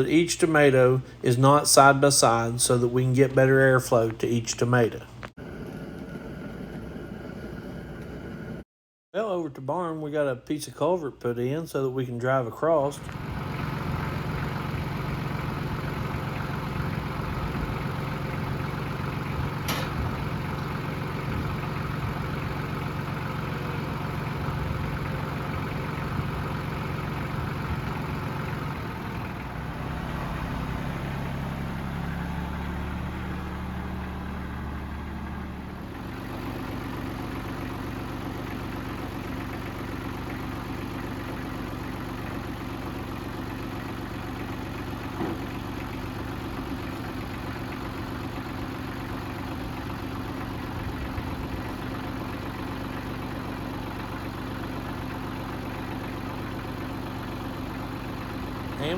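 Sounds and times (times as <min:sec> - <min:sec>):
vehicle engine running: 0:00.0 - 0:08.6, 0:13.0 - 0:58.9.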